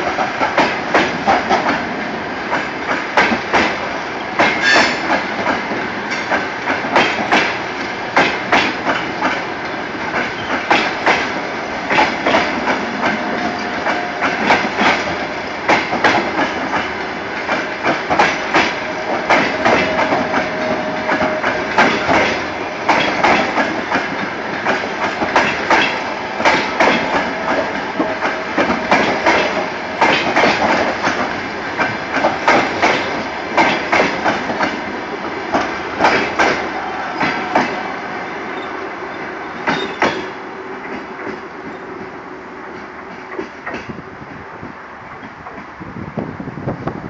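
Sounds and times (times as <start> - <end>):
train wheels clattering over rail joints: 0.0 - 37.9, 39.5 - 42.1, 42.7 - 44.0.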